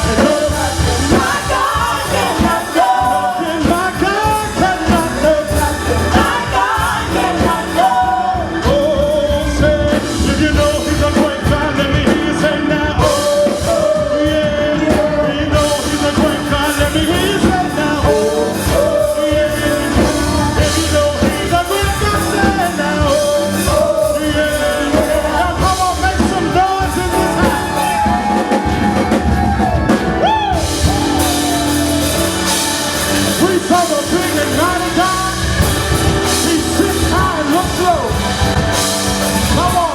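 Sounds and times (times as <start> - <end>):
drums: 0.0 - 39.9
person singing: 0.0 - 39.9
worship band playing: 0.0 - 39.9.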